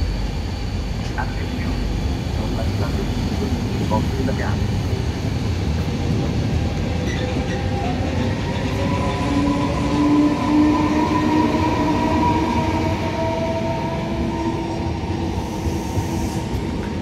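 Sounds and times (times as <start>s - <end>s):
electric locomotive whine: 0.0s - 17.0s
train rolling past: 0.0s - 17.0s.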